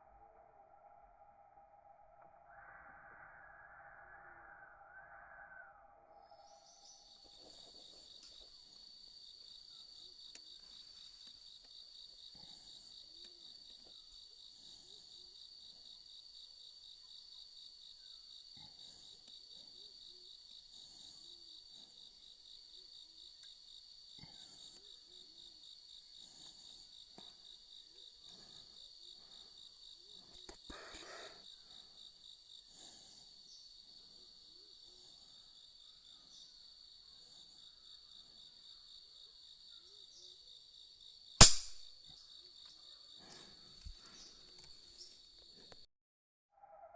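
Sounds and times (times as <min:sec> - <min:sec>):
insects trilling: 0:02.4 - 0:45.8.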